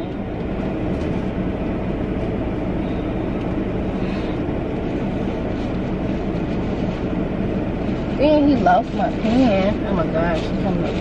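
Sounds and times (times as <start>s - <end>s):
car engine rumble and hiss: 0.0s - 11.0s.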